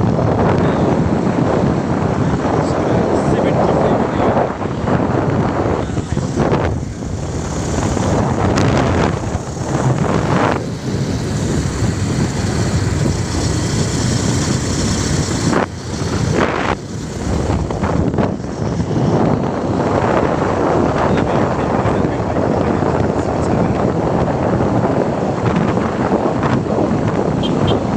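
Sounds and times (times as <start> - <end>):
motorbike running: 0.0 - 27.9
wind buffeting microphone: 0.0 - 27.9.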